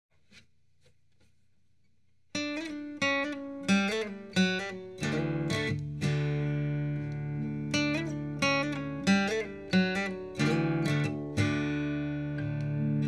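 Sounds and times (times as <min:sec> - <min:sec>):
acoustic guitar music: 0:02.3 - 0:13.0.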